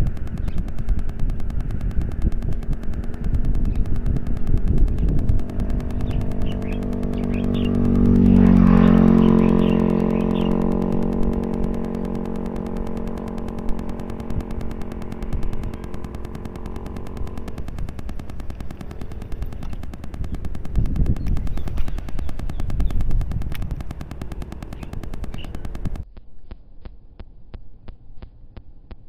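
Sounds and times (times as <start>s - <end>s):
vehicle engine passing: 0.0s - 26.0s.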